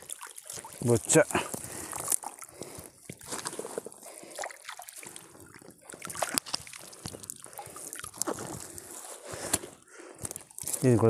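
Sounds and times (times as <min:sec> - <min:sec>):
small splashes: 0:00.0 - 0:09.0
water trickling and dripping: 0:00.0 - 0:09.1.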